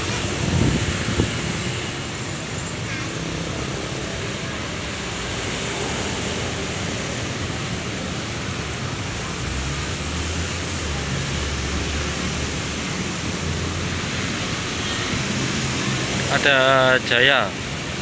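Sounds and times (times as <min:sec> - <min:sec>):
bus diesel engines rumbling: 0:00.0 - 0:18.0.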